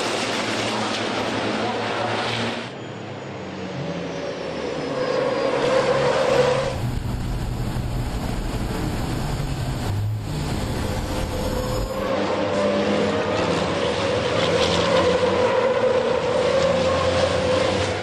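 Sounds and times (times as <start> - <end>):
race truck engines: 0.0 - 18.0.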